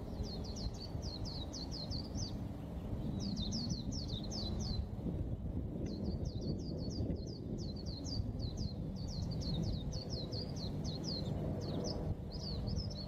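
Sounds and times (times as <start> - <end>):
bird chirping rapidly: 0.0 - 4.9, 5.9 - 13.0
steady low rumble: 0.0 - 13.0.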